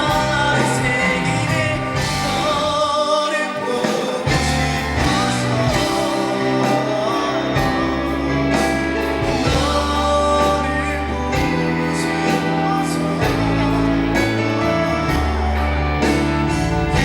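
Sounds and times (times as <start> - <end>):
live band playing pop ballad: 0.0 - 17.0
person singing: 0.0 - 17.0.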